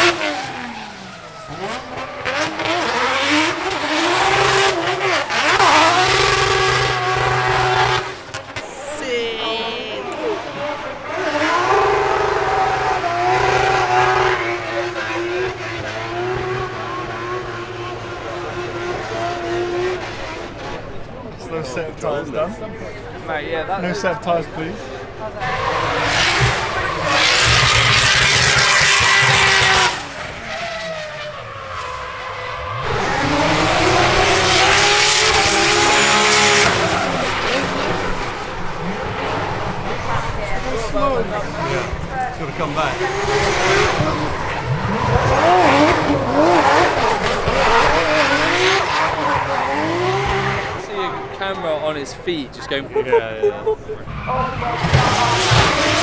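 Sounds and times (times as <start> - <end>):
car engine revving hard: 0.0 - 8.7, 10.0 - 21.0, 25.1 - 51.7, 54.1 - 56.0.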